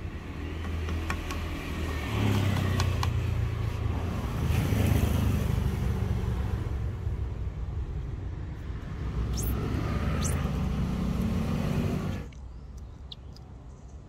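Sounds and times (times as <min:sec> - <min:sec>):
passing vehicle engine rumble: 0:00.2 - 0:12.4.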